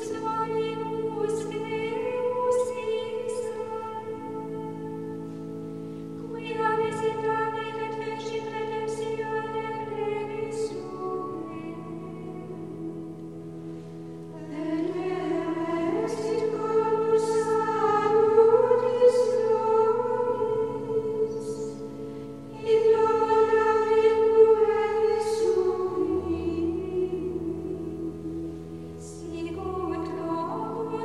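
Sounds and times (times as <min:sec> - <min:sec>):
choir singing sustained notes: 0:00.0 - 0:31.0.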